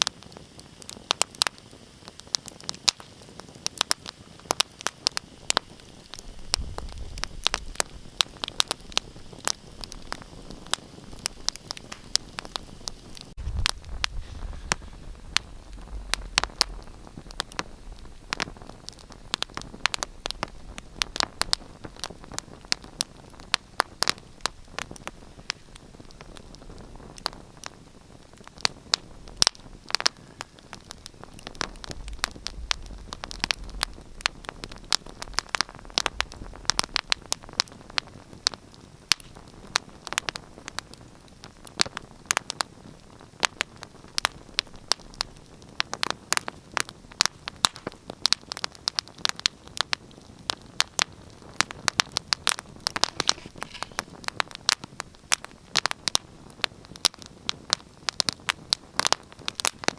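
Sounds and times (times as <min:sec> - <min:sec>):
soft steady hiss: 0:00.0 - 0:59.9
wood fire crackling: 0:00.0 - 0:59.9.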